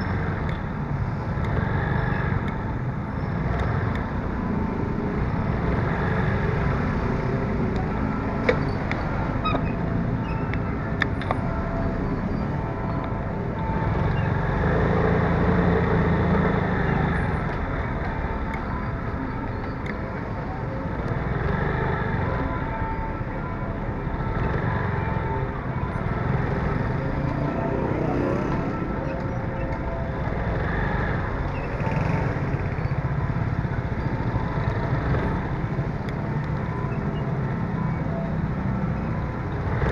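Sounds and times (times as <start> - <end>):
vehicle and motorcycle engines: 0.0 - 39.9.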